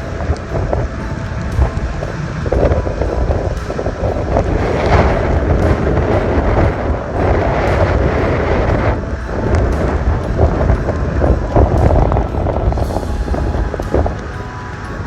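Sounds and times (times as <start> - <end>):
hurricane wind buffeting microphone: 0.0 - 15.0.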